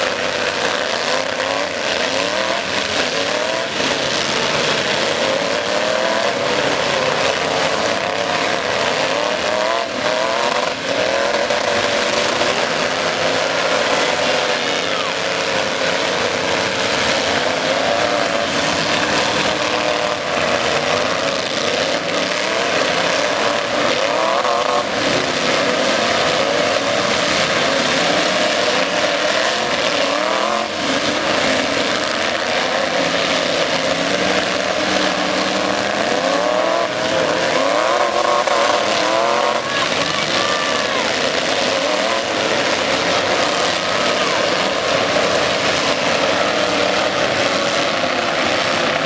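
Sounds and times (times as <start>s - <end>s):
truck engines revving: 0.0s - 49.0s.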